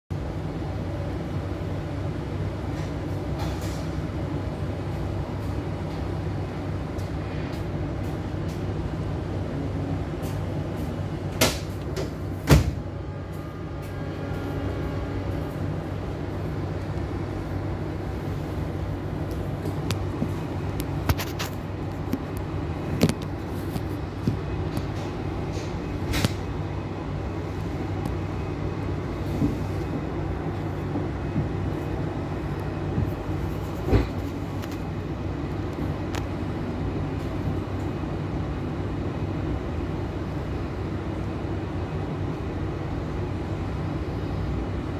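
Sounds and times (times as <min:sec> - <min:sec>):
train hum and rumble: 0:00.1 - 0:44.9.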